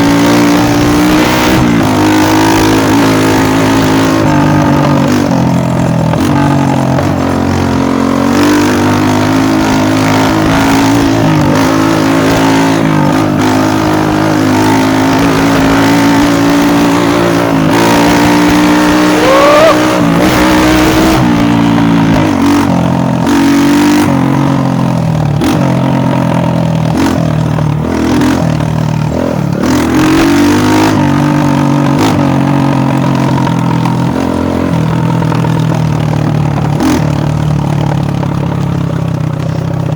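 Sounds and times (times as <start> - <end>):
dirt bike engine revving: 0.0 - 38.2.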